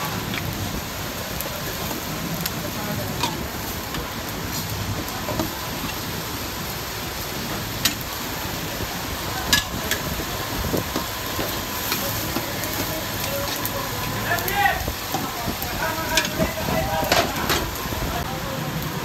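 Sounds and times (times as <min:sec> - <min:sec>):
minced beef sizzling in a pan: 0:00.0 - 0:19.0.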